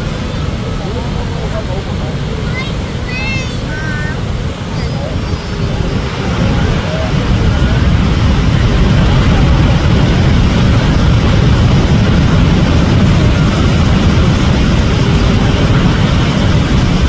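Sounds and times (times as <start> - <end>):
faint voices: 0.0 - 17.0
waterfall roaring: 0.0 - 17.0.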